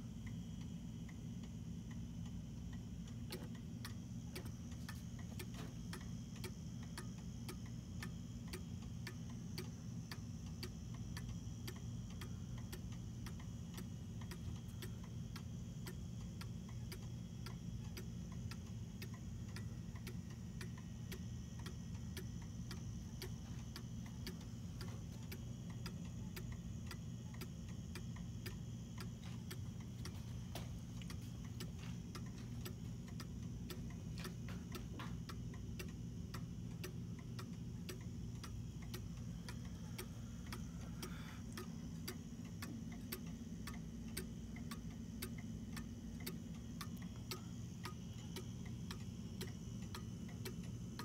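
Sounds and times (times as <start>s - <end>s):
low steady hum: 0.0s - 51.0s
cuckoo clock ticking: 3.2s - 30.2s, 31.0s - 51.0s.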